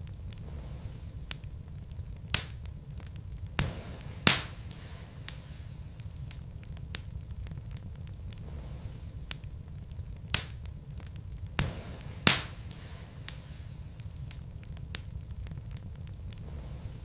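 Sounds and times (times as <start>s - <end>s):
flames rumbling: 0.0s - 17.0s
wood fire crackling and popping: 0.0s - 17.0s.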